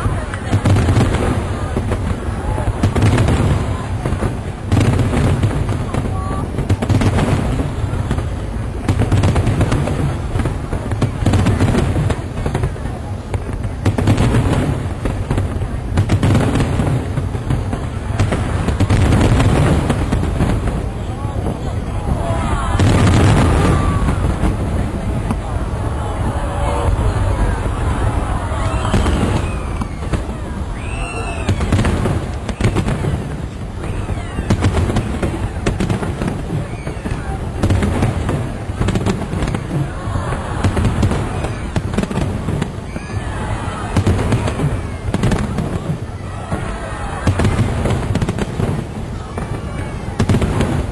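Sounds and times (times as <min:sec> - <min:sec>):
fireworks crackling: 0:00.0 - 0:50.9
fireworks low booms: 0:00.0 - 0:50.9.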